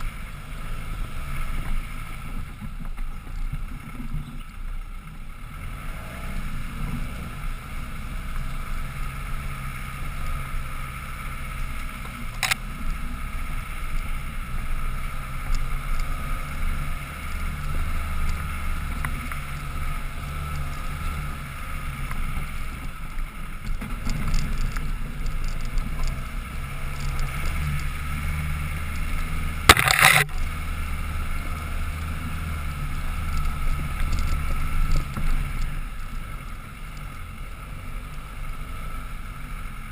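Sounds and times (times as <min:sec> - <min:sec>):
engine running at low revs: 0:00.0 - 0:39.9.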